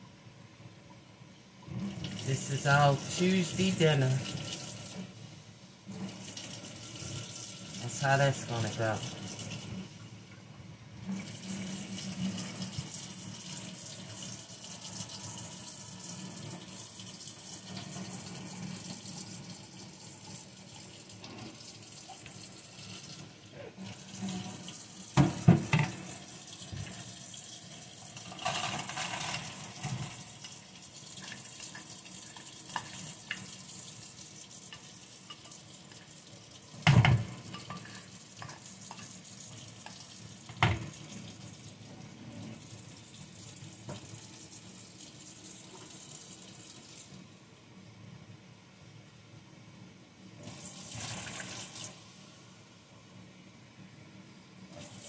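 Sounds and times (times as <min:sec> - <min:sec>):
rice rinsed in a bowl: 0:01.5 - 0:10.3, 0:11.0 - 0:47.4, 0:50.4 - 0:52.7
water running into a sink: 0:01.6 - 0:10.1, 0:11.0 - 0:47.3, 0:50.4 - 0:52.2, 0:54.7 - 0:55.0.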